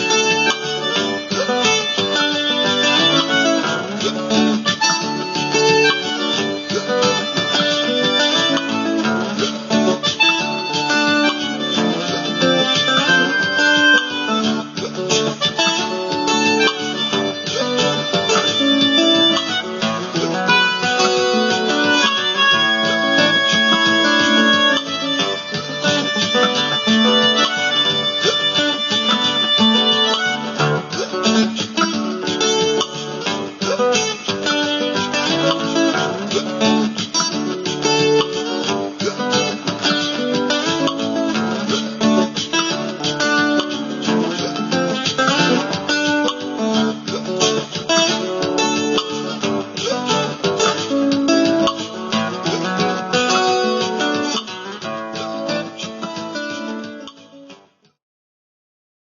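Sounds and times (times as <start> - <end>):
layered loop music: 0.0 - 54.6
high held tones: 0.0 - 55.9.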